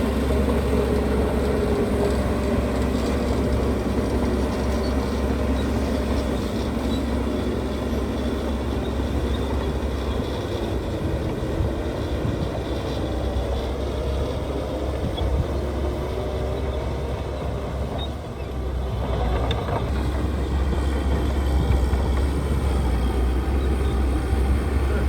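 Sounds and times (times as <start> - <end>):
diesel machinery rumbling: 0.0 - 25.0.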